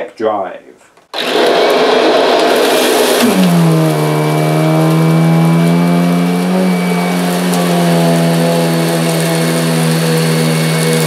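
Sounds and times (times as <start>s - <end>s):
upright vacuum cleaner running: 1.1s - 11.0s.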